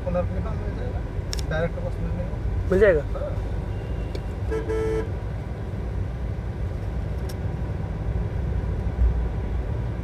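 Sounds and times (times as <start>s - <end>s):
car driving rumble: 0.0s - 10.0s.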